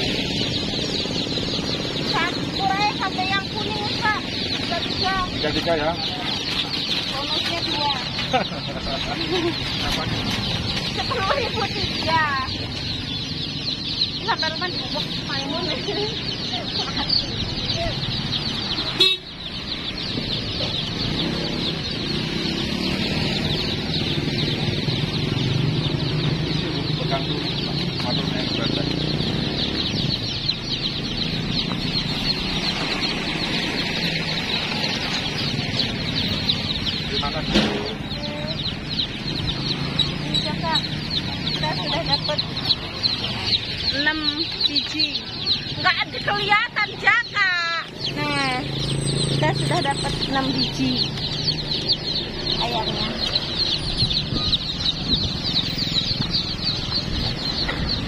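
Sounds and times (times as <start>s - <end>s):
baby chicks peeping: 0.0s - 58.0s
engine rumble: 0.0s - 58.0s.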